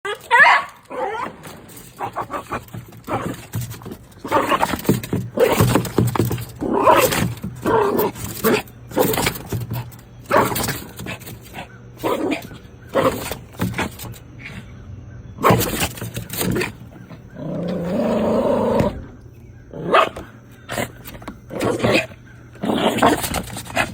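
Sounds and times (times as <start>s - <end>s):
dog barking gruffly: 0.0s - 14.2s, 15.4s - 19.1s, 19.7s - 23.9s.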